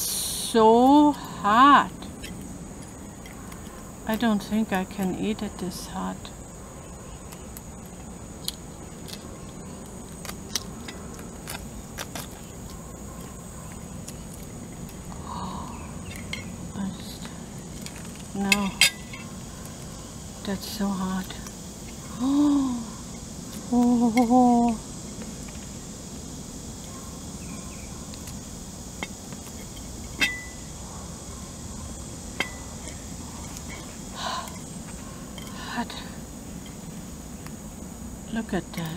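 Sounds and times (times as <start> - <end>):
faint hiss: 0.0 - 38.9.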